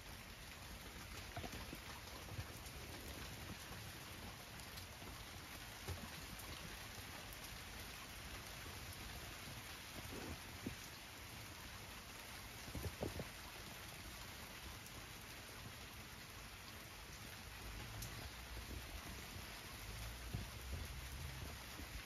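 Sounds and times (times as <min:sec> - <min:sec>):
light rain falling: 0:00.0 - 0:22.0
raindrops tapping: 0:00.0 - 0:22.0.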